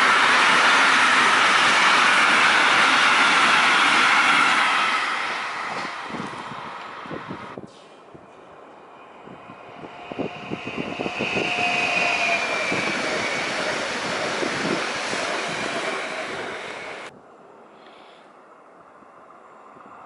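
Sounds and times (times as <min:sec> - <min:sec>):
train wheels rushing on rail: 0:00.0 - 0:17.1.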